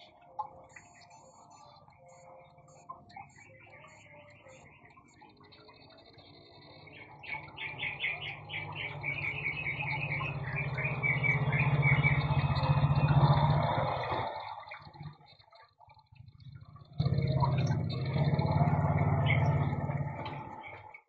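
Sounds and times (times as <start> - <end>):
low steady drone: 0.0 - 20.9
bird chirping: 0.0 - 21.0.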